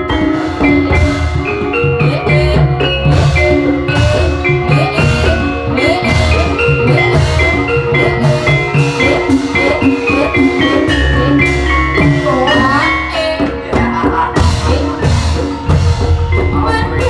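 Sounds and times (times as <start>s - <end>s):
metallophones playing melody: 0.0s - 17.0s
steady drumming: 0.0s - 17.0s.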